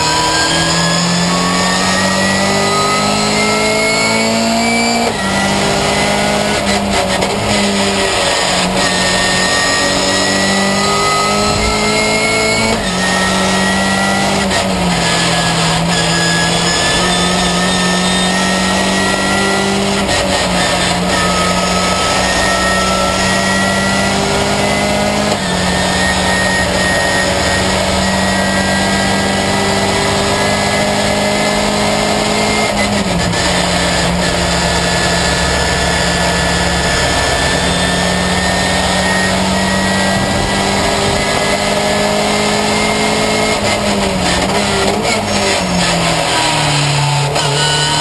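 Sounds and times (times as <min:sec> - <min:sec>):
race car engine at speed: 0:00.0 - 0:48.0.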